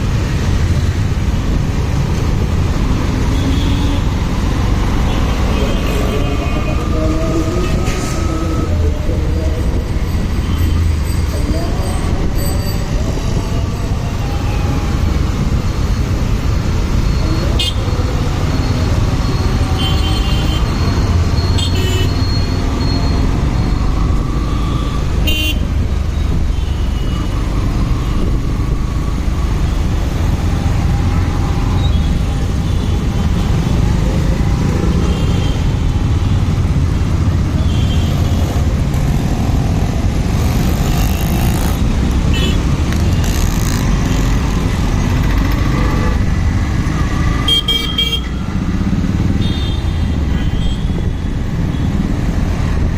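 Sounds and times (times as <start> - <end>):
motorcycle engine and road rumble: 0.0 - 52.9.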